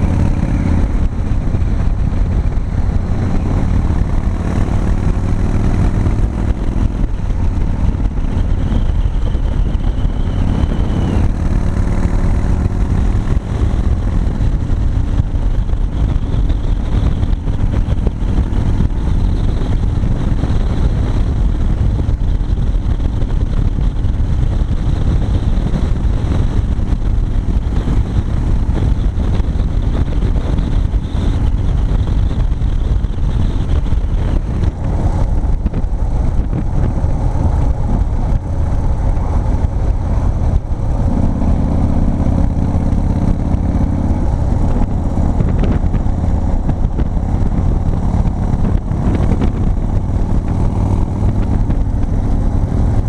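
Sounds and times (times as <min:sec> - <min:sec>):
motorcycle engine running: 0:00.0 - 0:53.0
wind noise: 0:00.0 - 0:53.0.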